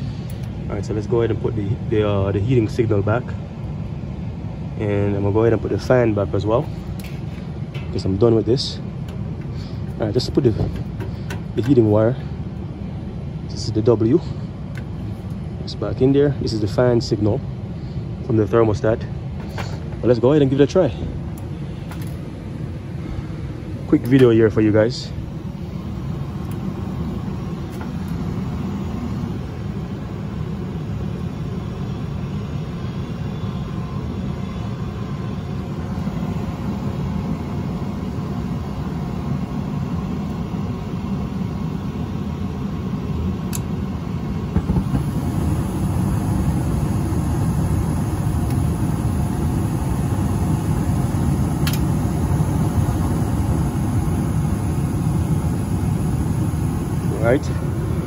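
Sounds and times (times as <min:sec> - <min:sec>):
gas furnace humming: 0:00.0 - 0:58.0.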